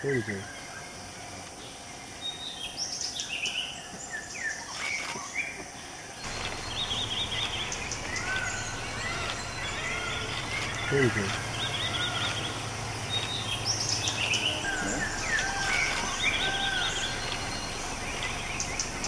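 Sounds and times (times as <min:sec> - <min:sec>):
birds chirping and warbling: 0:00.0 - 0:19.0
steady background hiss: 0:00.0 - 0:19.0.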